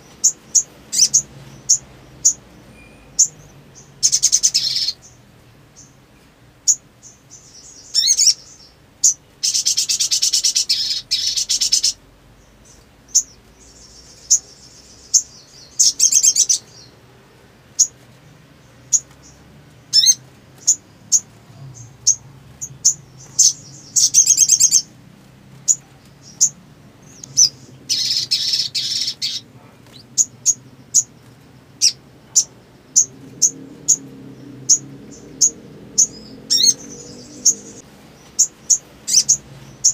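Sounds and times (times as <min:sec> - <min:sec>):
bird chirping and trilling: 0:00.0 - 0:17.0, 0:17.7 - 0:18.0, 0:18.6 - 0:25.0, 0:25.6 - 0:39.9.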